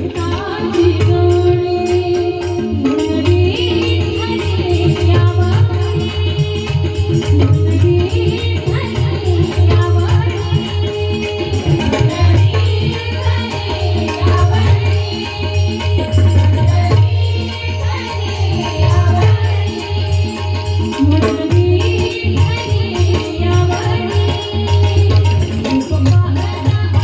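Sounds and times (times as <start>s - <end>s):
hand drum steady rhythm: 0.0s - 27.0s
jingling hand percussion: 0.0s - 27.0s.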